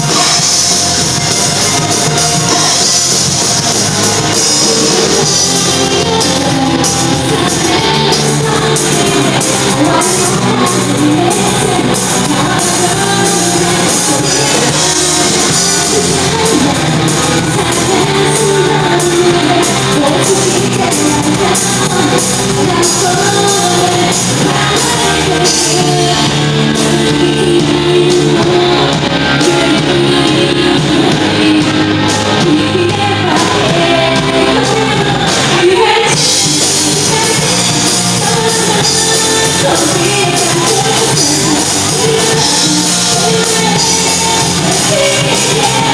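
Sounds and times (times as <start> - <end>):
live rock band playing: 0.0 - 45.9
person singing: 0.0 - 45.9.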